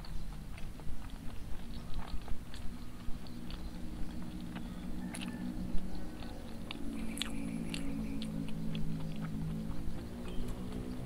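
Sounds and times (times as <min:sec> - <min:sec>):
lip smacks: 0:00.0 - 0:10.9
person chewing: 0:00.0 - 0:11.0
sucking fingers: 0:00.0 - 0:11.0.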